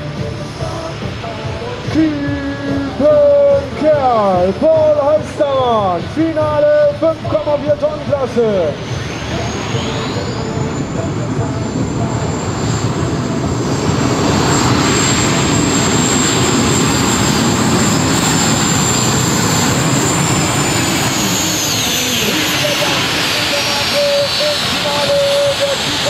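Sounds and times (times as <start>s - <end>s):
high whine: 0.0s - 26.0s
tractor engine at full power: 0.0s - 26.0s.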